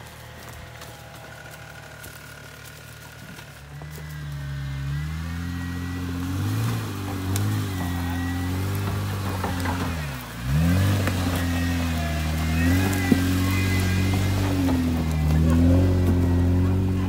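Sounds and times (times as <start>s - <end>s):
engine at low revs: 0.0s - 17.0s.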